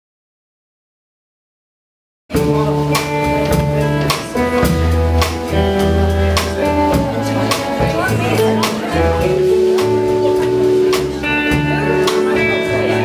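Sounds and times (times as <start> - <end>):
live band playing: 2.3 - 13.0.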